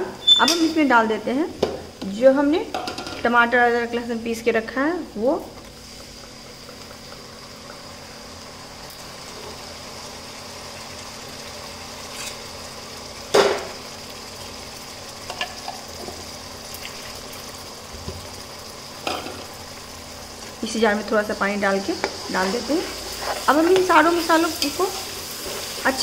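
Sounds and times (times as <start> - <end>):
paste sizzling in hot oil: 3.9 - 26.0.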